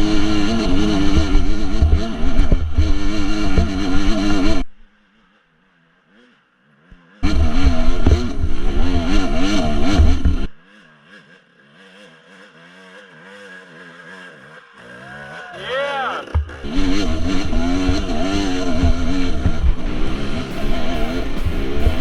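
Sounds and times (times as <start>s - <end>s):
dirt bike engine revving: 0.0s - 4.8s, 6.1s - 22.0s.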